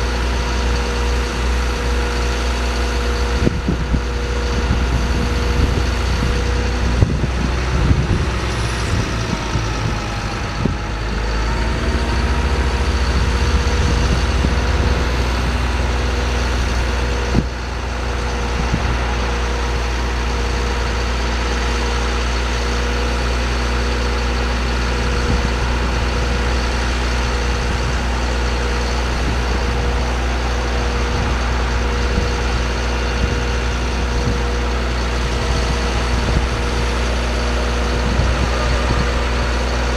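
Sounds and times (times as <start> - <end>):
constant high hum: 0.0 - 39.9
truck engine idling: 0.0 - 39.9.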